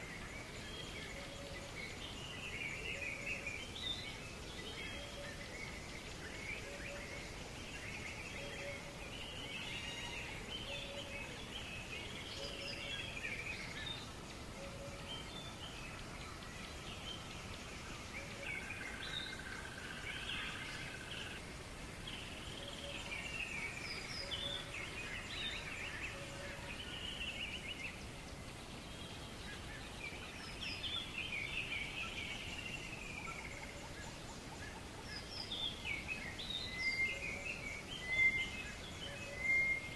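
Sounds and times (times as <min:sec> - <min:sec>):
songbirds chirping and singing: 0:00.0 - 0:39.9
steady background hiss: 0:00.0 - 0:39.9.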